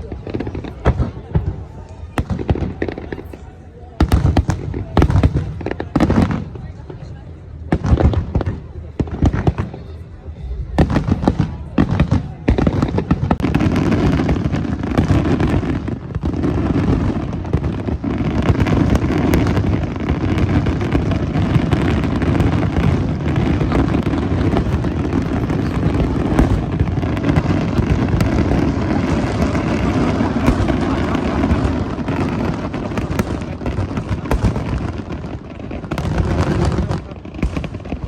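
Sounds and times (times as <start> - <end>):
distant fireworks booming and crackling: 0.0 - 38.0.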